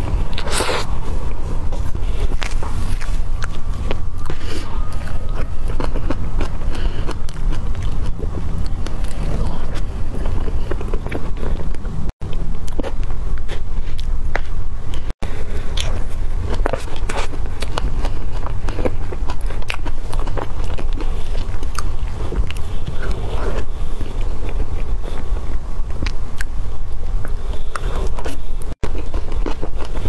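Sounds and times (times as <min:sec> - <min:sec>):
low rumble: 0:00.0 - 0:30.0
wet chewing and mouth clicks: 0:00.0 - 0:30.0.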